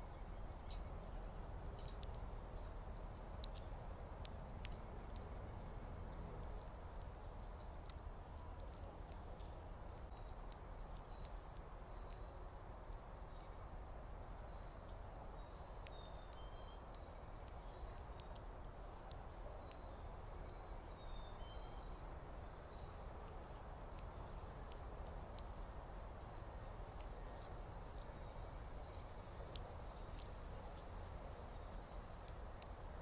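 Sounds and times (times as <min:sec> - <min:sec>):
faint bird chirps: 0:00.0 - 0:03.8, 0:07.4 - 0:32.8
small ticks: 0:00.0 - 0:33.0
steady low rumble: 0:00.0 - 0:33.0.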